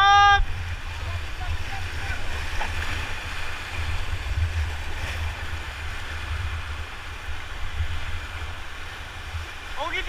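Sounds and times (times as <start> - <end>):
wind buffeting microphone: 0.0 - 9.8
rushing whitewater: 0.0 - 10.0.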